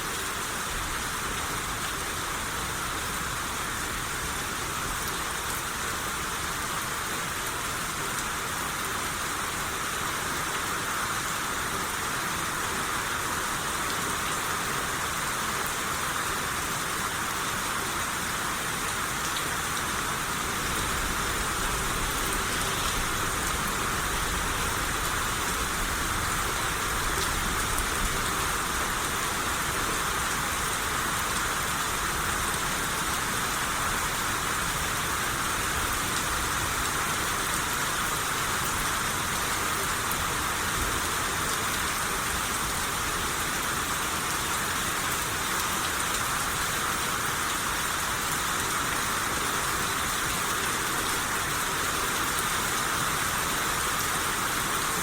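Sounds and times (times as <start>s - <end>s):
rain shower on surfaces: 0.0s - 55.0s.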